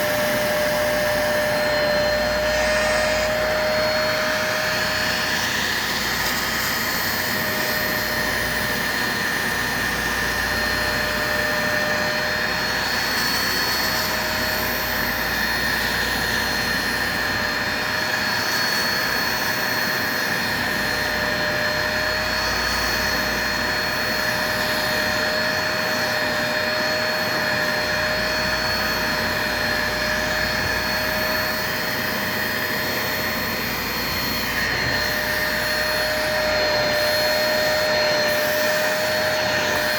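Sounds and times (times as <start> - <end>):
spot cleaner suction motor whine: 0.0 - 39.9.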